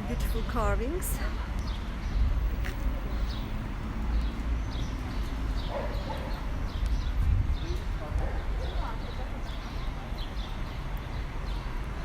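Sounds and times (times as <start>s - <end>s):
small birds chirping: 0.4s - 11.9s.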